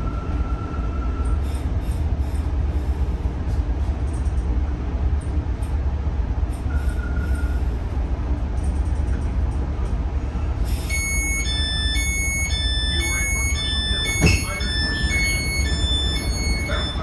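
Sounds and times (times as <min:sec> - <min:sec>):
train wheels rumbling on rails: 0:00.0 - 0:11.0, 0:11.6 - 0:17.0.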